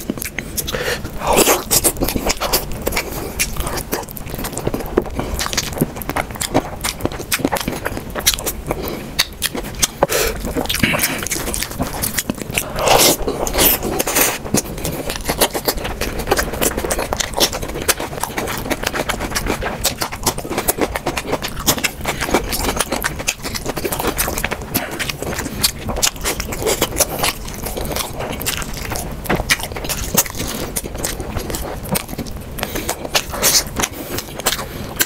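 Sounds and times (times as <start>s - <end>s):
wet chewing and lip smacking: 0.0s - 35.0s.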